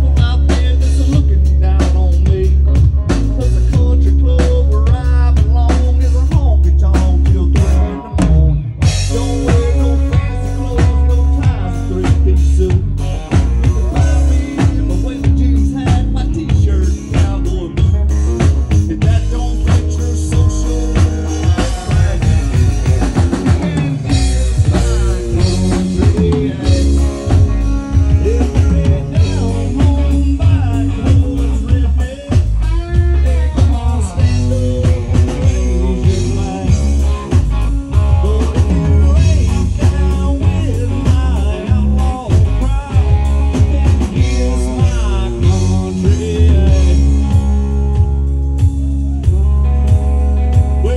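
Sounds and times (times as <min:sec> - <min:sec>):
bass guitar: 0:00.0 - 0:50.9
drum kit steady beat: 0:00.0 - 0:50.9
electric guitar: 0:00.0 - 0:50.9.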